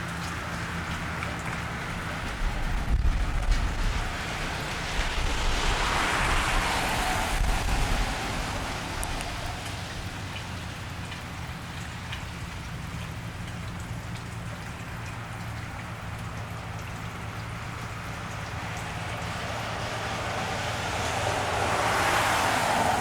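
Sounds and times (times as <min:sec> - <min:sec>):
car tyres on wet pavement: 0:00.0 - 0:23.0
drips ticking: 0:00.0 - 0:23.0
rain falling on wet street: 0:00.0 - 0:23.0.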